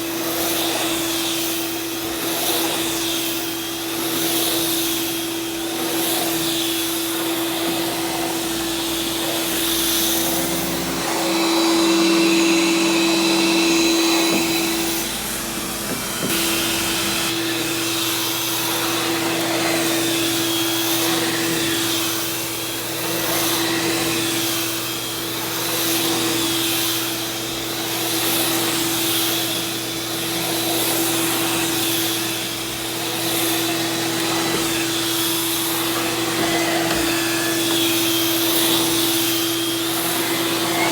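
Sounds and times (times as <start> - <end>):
vacuum cleaner running on carpet: 0.0 - 40.9.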